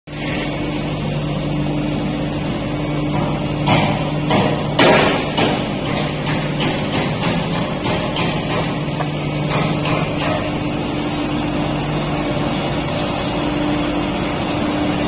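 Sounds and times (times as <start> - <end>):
machine humming: 0.1 - 15.0.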